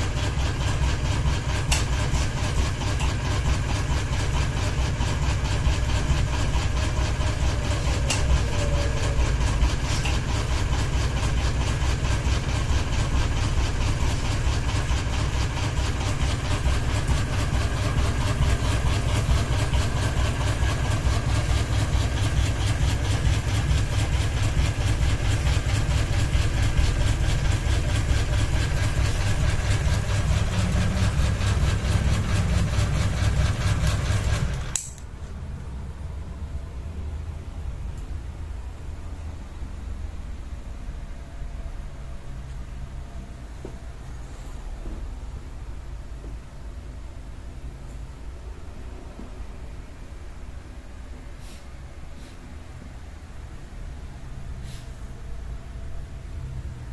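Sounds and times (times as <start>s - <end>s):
wobbling ceiling fan hum: 0.0s - 56.9s.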